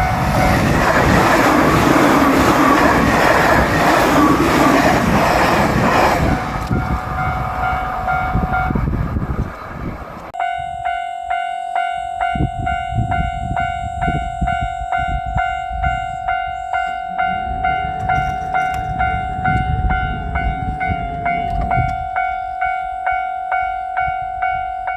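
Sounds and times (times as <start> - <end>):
level-crossing warning bell: 0.0 - 9.2, 10.3 - 24.9
train rumble: 0.0 - 10.4, 12.2 - 24.9.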